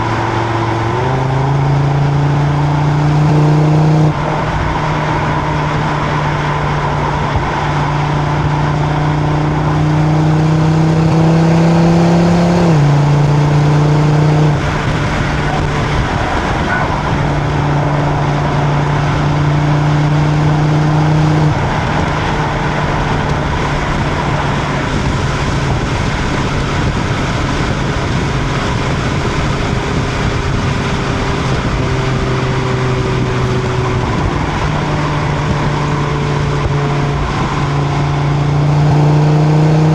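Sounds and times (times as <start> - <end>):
car engine and exhaust at speed: 0.0 - 39.9
road noise: 0.0 - 39.9
wind noise: 0.0 - 39.9.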